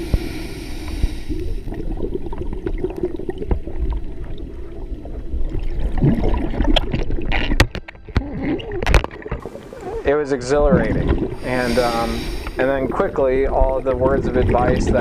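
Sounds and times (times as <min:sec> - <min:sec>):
underwater low rumble: 0:00.0 - 0:15.0
gurgling: 0:01.6 - 0:15.0.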